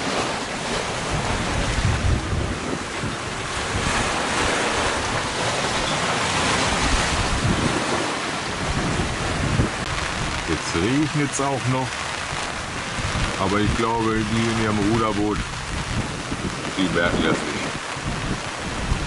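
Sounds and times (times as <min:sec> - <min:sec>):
waves rushing: 0:00.0 - 0:19.0
wind gusting on microphone: 0:00.0 - 0:19.0.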